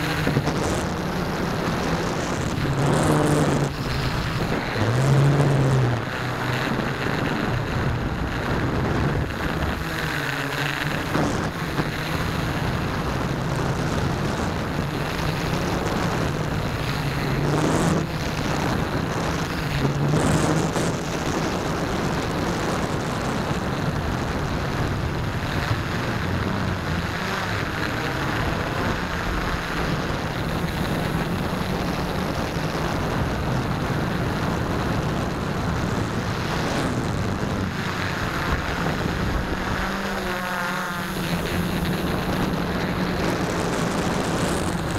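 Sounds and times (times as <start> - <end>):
model airplane motor droning: 0.0 - 44.9
wind rushing over microphone: 0.0 - 44.9.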